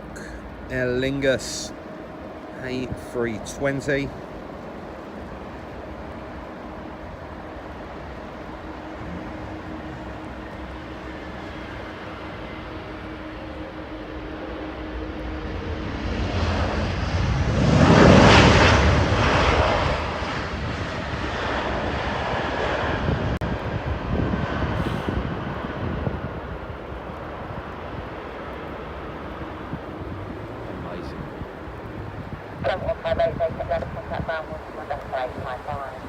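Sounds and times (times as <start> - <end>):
jet engines passing: 0.0 - 36.0.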